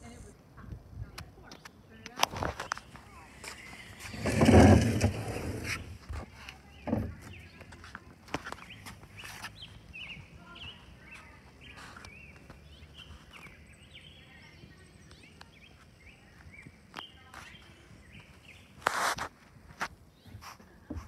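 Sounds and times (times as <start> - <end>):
small birds chirping: 0.0 - 18.9, 19.6 - 21.0.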